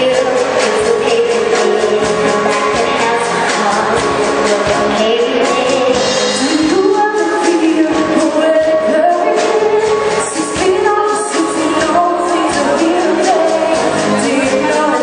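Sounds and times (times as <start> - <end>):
instrumental backing: 0.0 - 15.0
vocal group singing pop song: 0.0 - 15.0.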